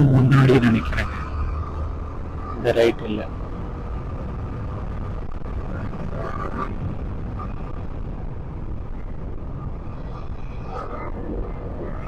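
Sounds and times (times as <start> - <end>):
wind noise: 0.0 - 12.0.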